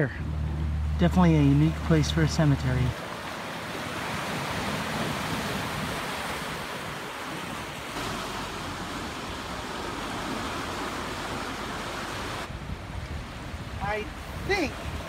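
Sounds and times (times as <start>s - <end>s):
ocean surf on rocky shore: 0.0s - 15.0s.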